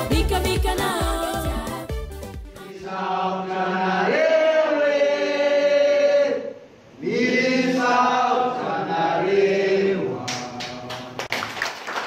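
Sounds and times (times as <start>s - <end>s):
choir singing: 0.1s - 1.8s, 2.6s - 10.8s.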